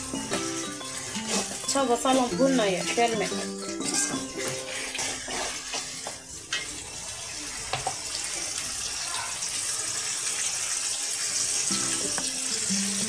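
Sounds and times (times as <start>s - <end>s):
hot oil sizzling in a pot: 0.0s - 13.0s.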